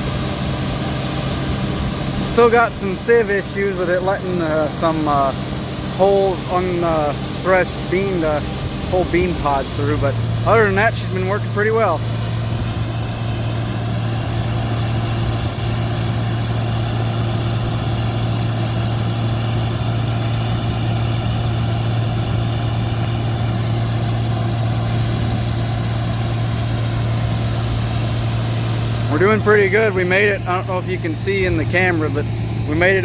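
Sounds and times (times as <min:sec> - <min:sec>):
combine harvester engine hum: 0:00.0 - 0:33.0
machinery hiss: 0:00.0 - 0:33.0.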